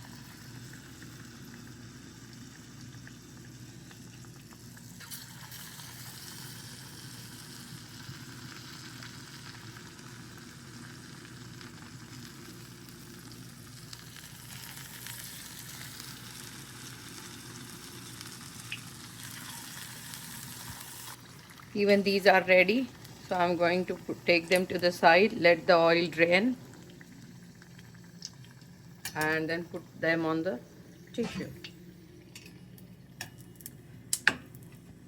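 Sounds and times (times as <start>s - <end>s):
deep-frying sizzle in oil: 0.0s - 29.5s.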